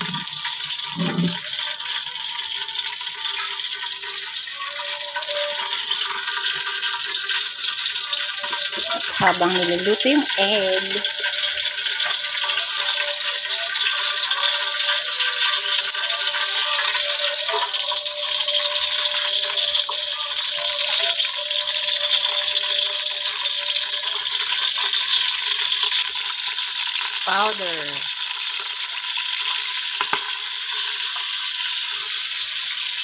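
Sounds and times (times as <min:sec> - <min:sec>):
oil sizzling: 0:00.0 - 0:33.0.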